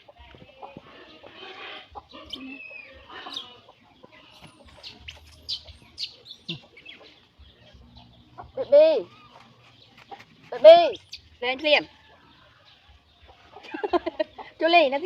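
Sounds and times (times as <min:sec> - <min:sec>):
birds clucking and chirping: 0:00.0 - 0:15.0.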